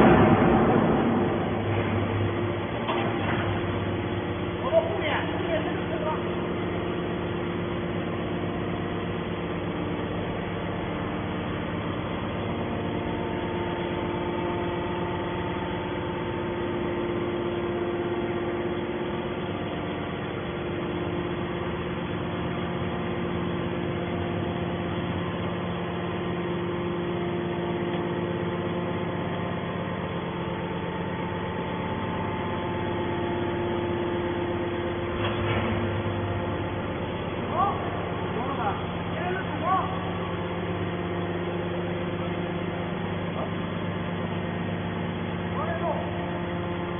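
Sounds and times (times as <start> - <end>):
baler machine humming: 0.0 - 46.9.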